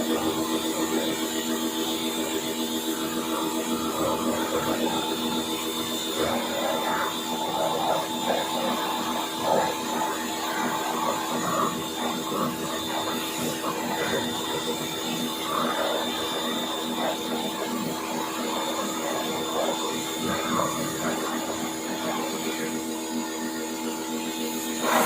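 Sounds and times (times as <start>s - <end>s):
motor hum: 0.0s - 25.0s.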